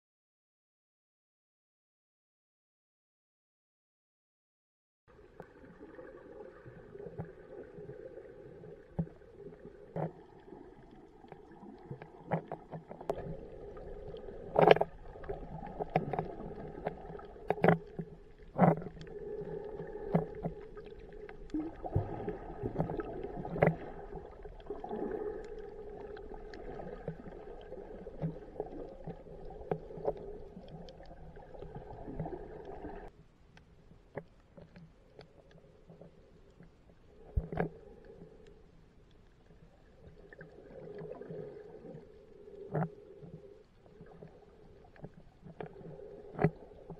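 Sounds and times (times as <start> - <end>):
muffled underwater hum: 6.6 - 46.9.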